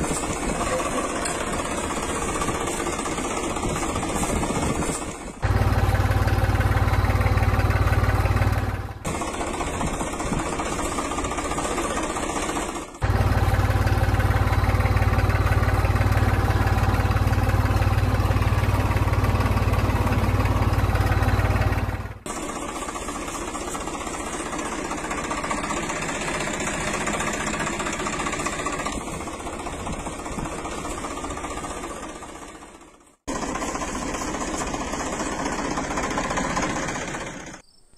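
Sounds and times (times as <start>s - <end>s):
small tractor motor running: 0.0s - 37.6s.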